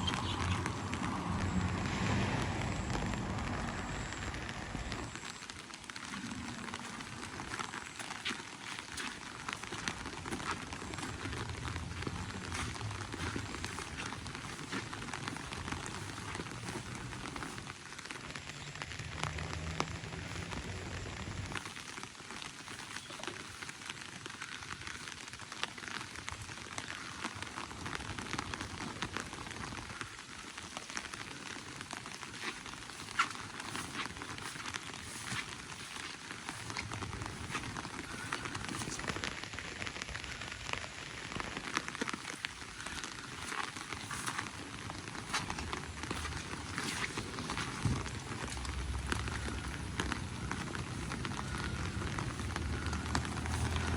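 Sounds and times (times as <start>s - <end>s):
rain falling: 0.0s - 53.9s
raindrop ticks: 0.0s - 53.9s.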